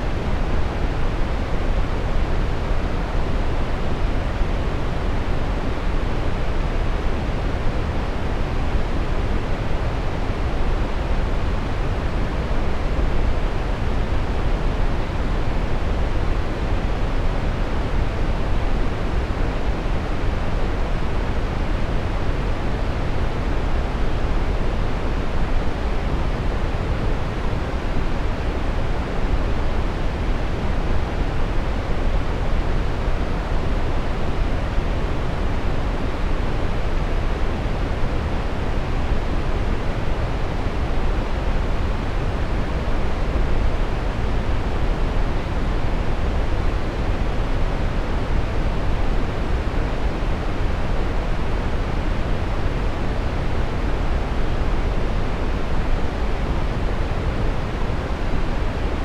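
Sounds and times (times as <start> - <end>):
steady brown noise: 0.0 - 59.0.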